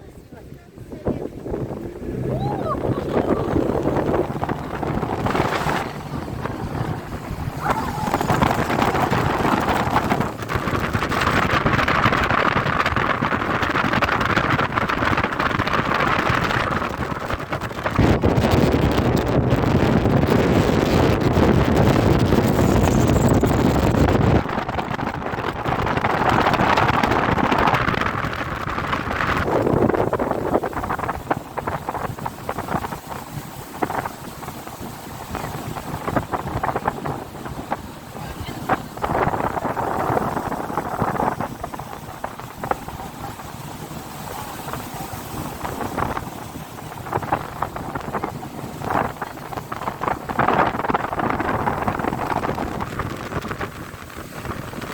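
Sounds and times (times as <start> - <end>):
motorboat engine running: 0.0 - 54.9
wind buffeting microphone: 0.0 - 54.9.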